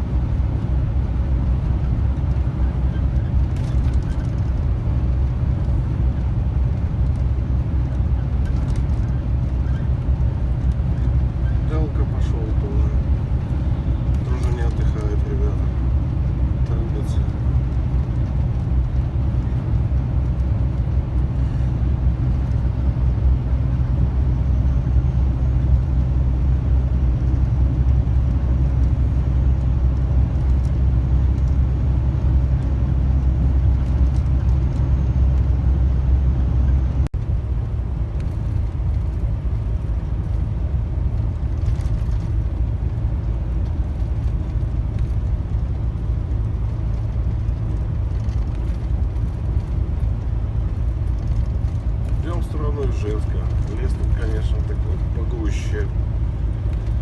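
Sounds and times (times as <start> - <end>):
lorry engine and road rumble: 0.0 - 57.0.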